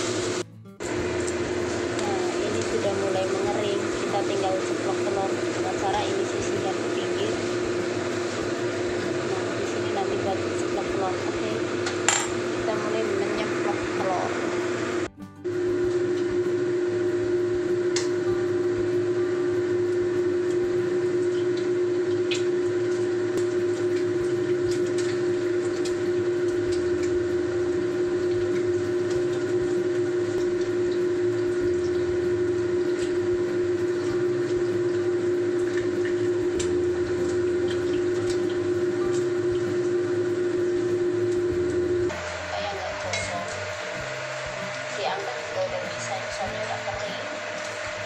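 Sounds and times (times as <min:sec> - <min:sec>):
eggs frying in oil: 0:00.0 - 0:48.0
steady hum: 0:00.0 - 0:48.0.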